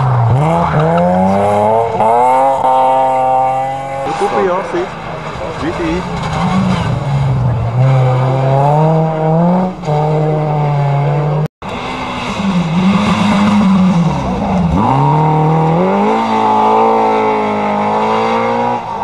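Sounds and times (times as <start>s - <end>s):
rally car engines revving: 0.0s - 19.0s.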